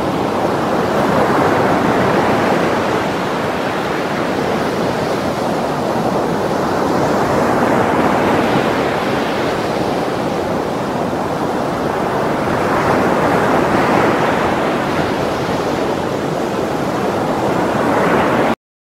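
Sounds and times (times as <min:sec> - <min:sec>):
ocean waves breaking: 0:00.0 - 0:18.6.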